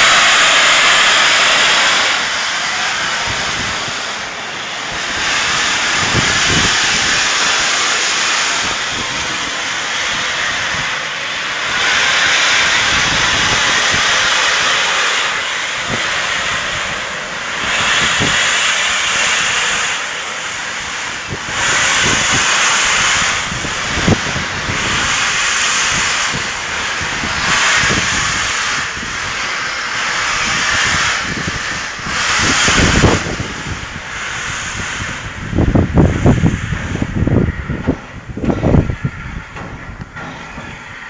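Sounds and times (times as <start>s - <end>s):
steam locomotive hissing: 0.0s - 41.0s.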